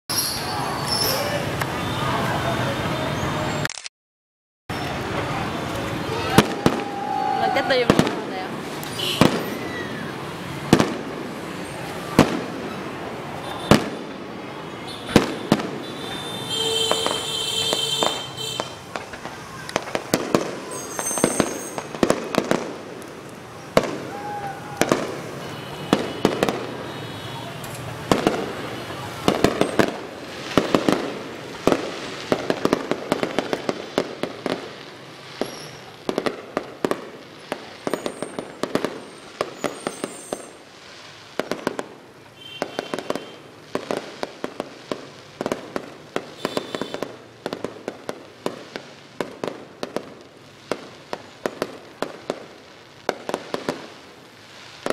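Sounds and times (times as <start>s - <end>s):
fireworks bangs and crackles: 0.1s - 3.7s, 4.7s - 54.9s.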